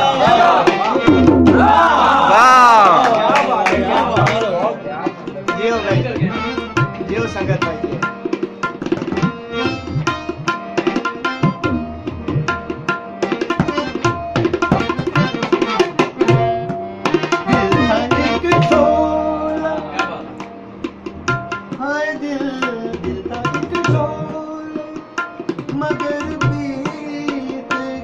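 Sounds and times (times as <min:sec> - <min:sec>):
harmonium holding notes: 0:00.0 - 0:02.4, 0:03.1 - 0:28.0
tabla rapid strikes: 0:00.2 - 0:28.0.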